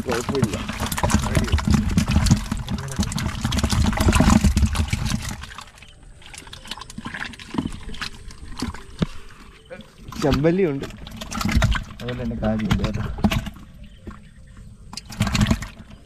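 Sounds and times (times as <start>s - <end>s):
fish splashing in water: 0.0s - 16.0s
water sloshing and dripping: 0.0s - 16.0s.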